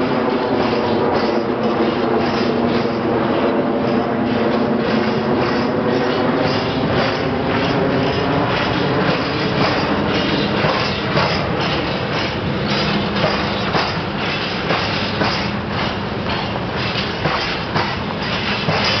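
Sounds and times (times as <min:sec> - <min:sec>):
freight wagons rumbling: 0:00.0 - 0:19.0.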